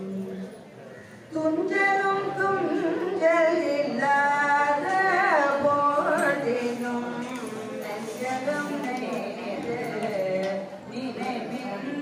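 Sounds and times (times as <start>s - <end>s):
person singing devotional song: 1.4s - 12.0s.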